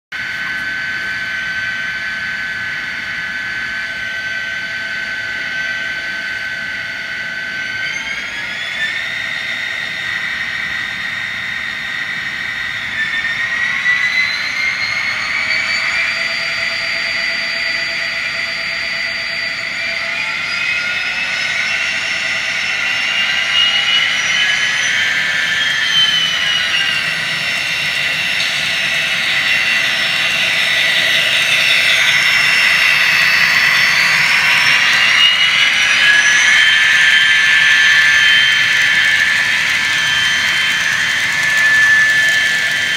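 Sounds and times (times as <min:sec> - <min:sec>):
model train diesel engine whine: 0:00.2 - 0:42.9.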